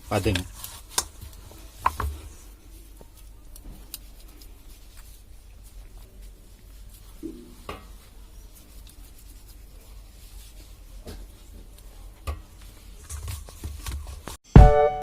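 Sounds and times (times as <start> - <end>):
hands rubbing dough: 0.0 - 14.4.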